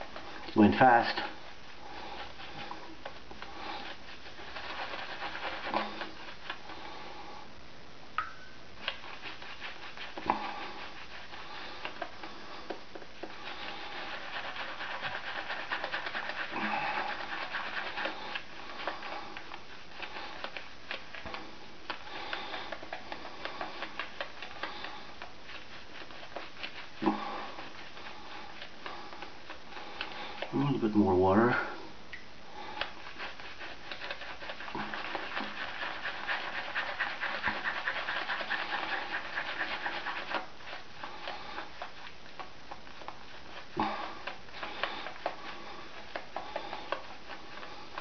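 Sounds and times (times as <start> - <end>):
shaving brush lathering on face: 0.0 - 7.3, 8.8 - 31.4, 32.6 - 48.0.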